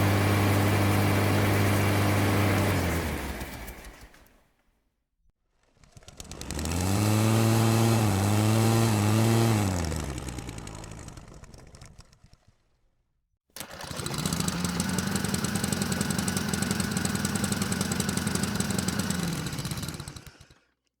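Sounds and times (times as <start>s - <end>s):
lawn mower engine running: 0.0s - 4.2s, 5.7s - 12.1s, 13.6s - 20.8s.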